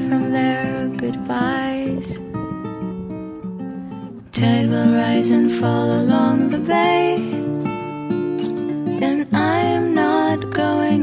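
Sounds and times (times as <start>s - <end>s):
acoustic guitar: 0.0s - 11.0s
soft song singing: 0.0s - 11.0s.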